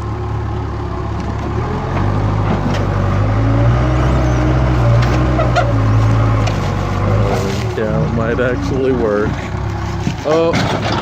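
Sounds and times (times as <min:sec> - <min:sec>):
diesel engine revving: 0:00.0 - 0:11.0.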